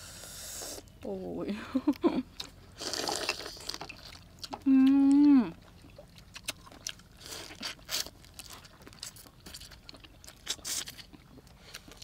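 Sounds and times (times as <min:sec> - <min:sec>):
crunching and chewing: 0:01.8 - 0:12.0.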